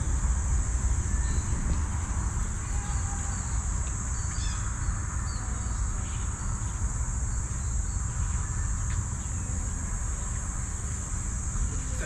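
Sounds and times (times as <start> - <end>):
high-pitched insect buzz: 0.0 - 12.0.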